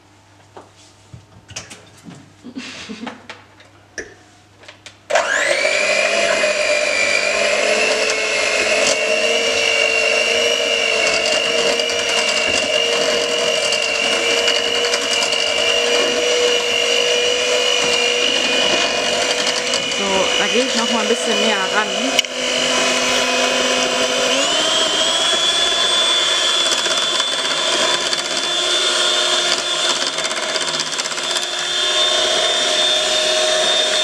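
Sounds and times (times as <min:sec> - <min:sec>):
electric hand mixer whining: 0:05.1 - 0:34.0.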